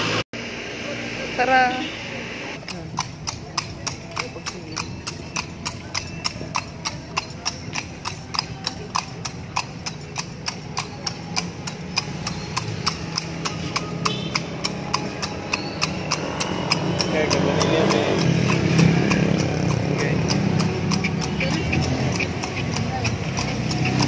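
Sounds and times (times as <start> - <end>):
horse hooves clip-clopping on pavement: 2.6 - 24.0.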